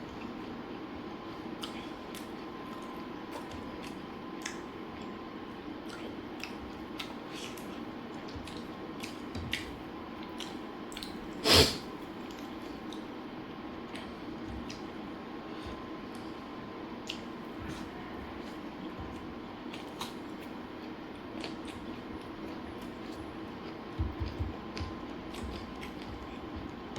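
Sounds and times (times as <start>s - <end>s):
steady low hum: 0.0s - 26.9s
person chewing: 1.6s - 5.1s, 5.8s - 13.1s, 13.9s - 26.9s.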